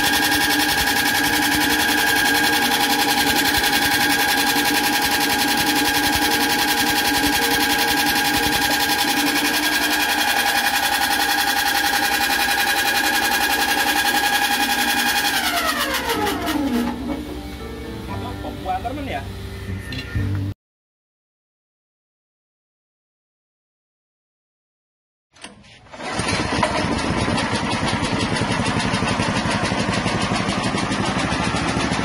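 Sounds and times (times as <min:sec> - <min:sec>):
machine humming and rattling: 0:00.0 - 0:20.5, 0:25.4 - 0:32.0.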